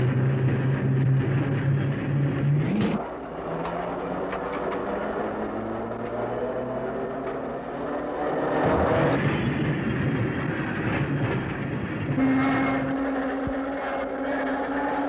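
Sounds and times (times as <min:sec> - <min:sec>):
railcar wheels and motors rumbling: 0:00.0 - 0:15.0.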